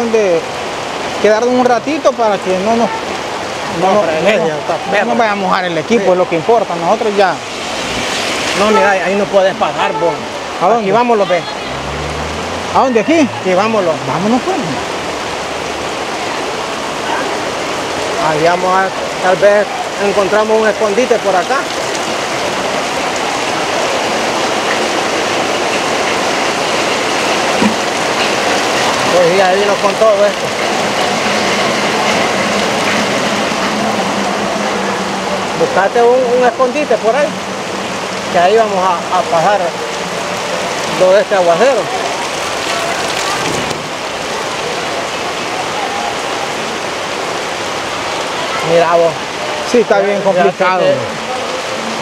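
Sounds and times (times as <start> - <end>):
heavy rain hissing: 0.0 - 52.0.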